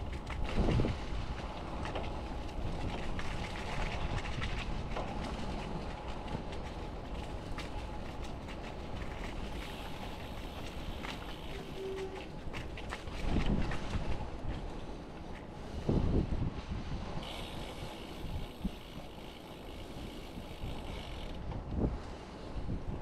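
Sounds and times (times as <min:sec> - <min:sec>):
bicycle trailer rolling and rattling: 0:00.0 - 0:23.0.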